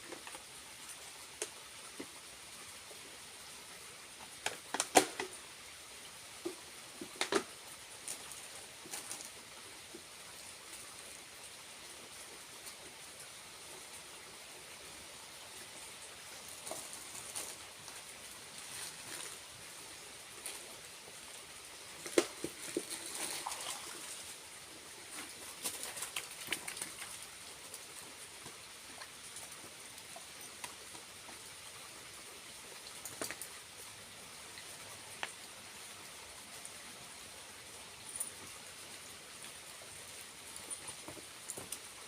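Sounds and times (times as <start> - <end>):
rustles: 0.0 - 42.0
small waterfall hissing: 0.0 - 42.0.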